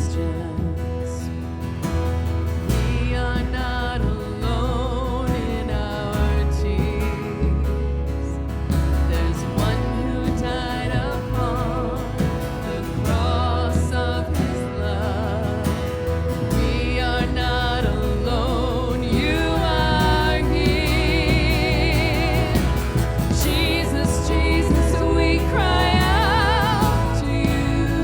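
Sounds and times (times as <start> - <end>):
live worship band playing: 0.0 - 28.0
steady bass: 0.0 - 28.0
person singing with vibrato: 2.7 - 28.0.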